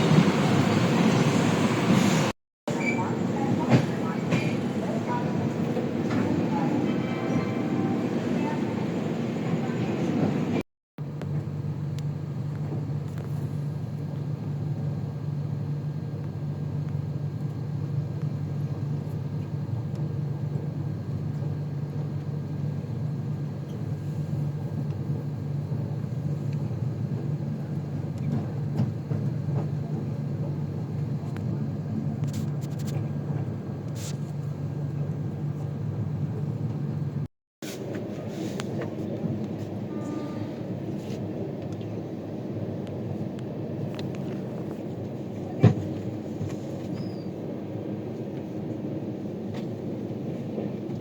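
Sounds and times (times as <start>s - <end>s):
moving train rumble: 0.0s - 51.0s.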